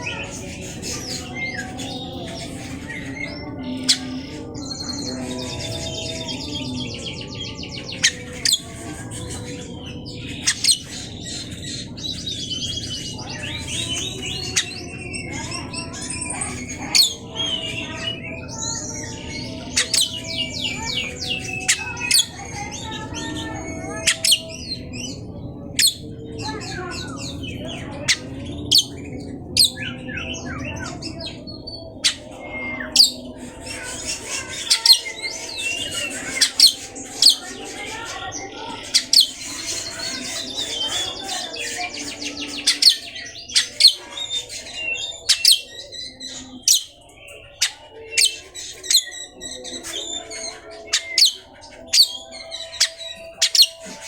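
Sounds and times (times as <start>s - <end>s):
songbird singing whistles and trills: 0.0s - 54.0s.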